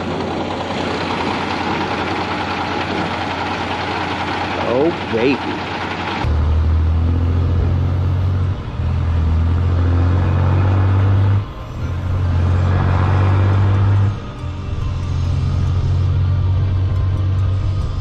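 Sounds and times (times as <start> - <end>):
heavy truck engine drone: 0.0 - 18.0.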